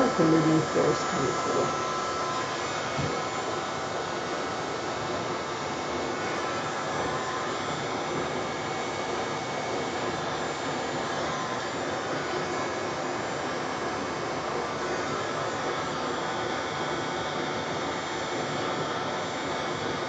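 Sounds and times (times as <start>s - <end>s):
hair dryer blowing: 0.0s - 20.0s.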